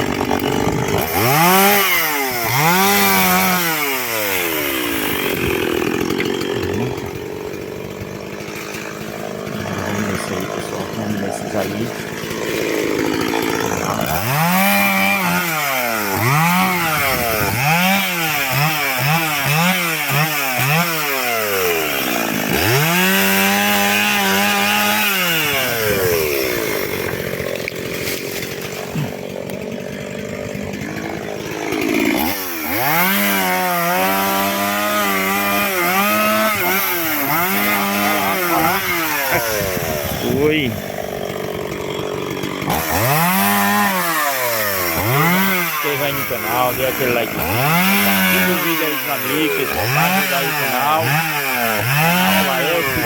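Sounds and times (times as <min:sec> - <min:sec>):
chainsaw cutting logs: 0:00.0 - 0:53.0.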